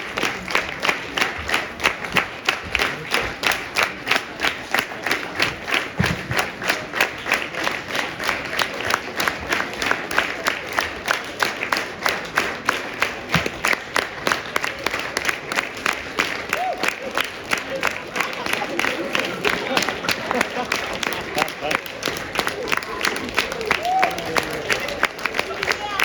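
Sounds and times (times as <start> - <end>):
audience clapping in unison: 0.0 - 26.0.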